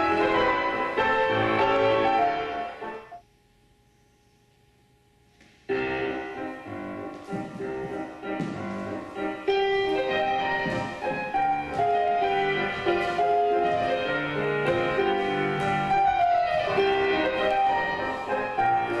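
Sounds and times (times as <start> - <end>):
piano music: 0.0 - 3.2, 5.7 - 19.0.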